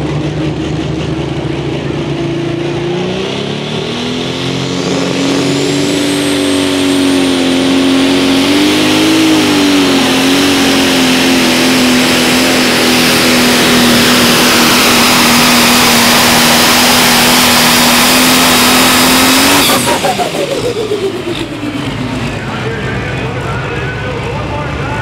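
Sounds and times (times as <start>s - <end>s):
diesel engine running flat out: 0.0s - 25.0s
high turbo whine: 0.0s - 25.0s.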